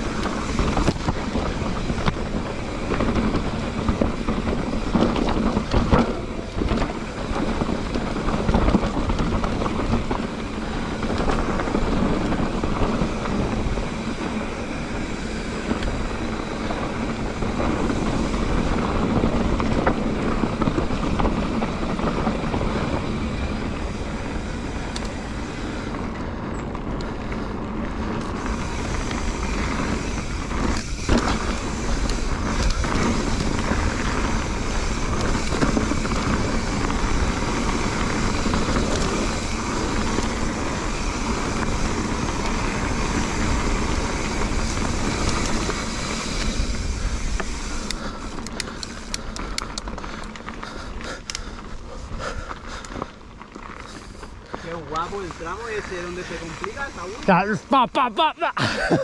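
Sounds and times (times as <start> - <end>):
bike knocks and rattles: 0.0 - 51.7
bike tyre noise on dirt: 0.0 - 59.0.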